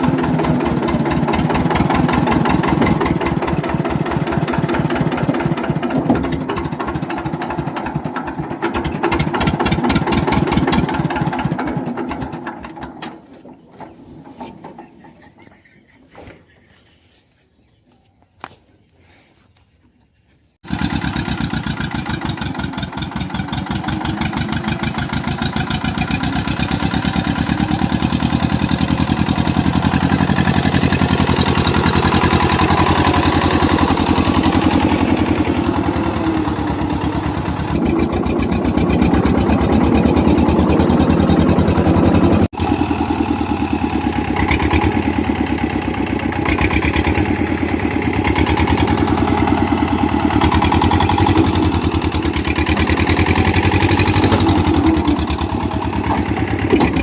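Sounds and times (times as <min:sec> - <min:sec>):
tractor diesel engine running: 0:00.0 - 0:15.8, 0:20.6 - 0:57.0.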